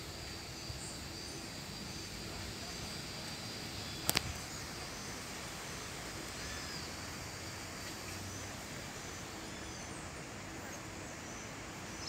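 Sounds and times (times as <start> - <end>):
forest ambience: 0.0 - 12.0.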